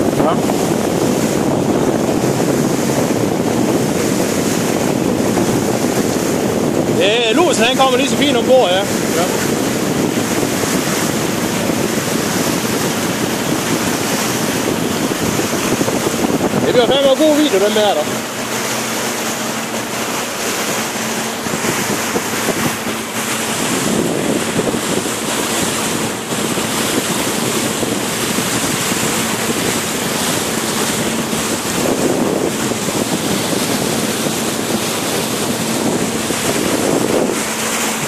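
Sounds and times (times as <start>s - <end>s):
engine hum: 0.0s - 38.0s
water rushing past boat: 0.0s - 38.0s
wind buffeting microphone: 0.0s - 38.0s.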